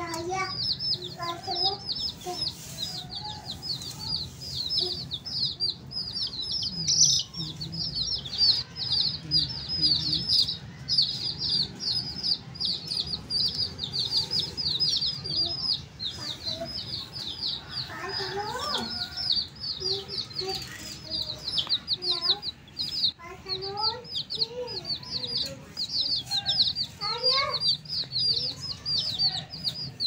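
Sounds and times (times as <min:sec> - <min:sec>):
baby chicks peeping: 0:00.0 - 0:30.0.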